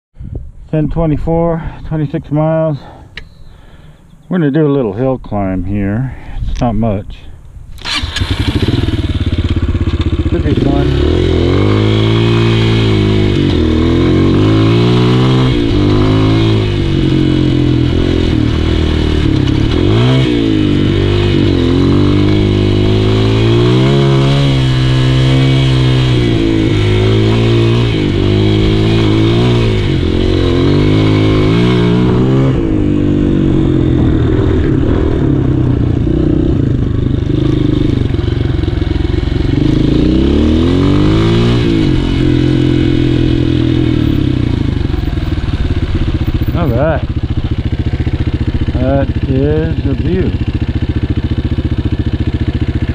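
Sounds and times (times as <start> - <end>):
motorcycle engine revving: 7.8 - 52.9.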